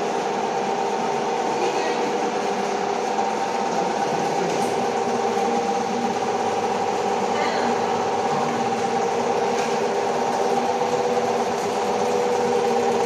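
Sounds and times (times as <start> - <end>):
fan whir: 0.0 - 13.0
furnace machine hum: 0.0 - 13.0.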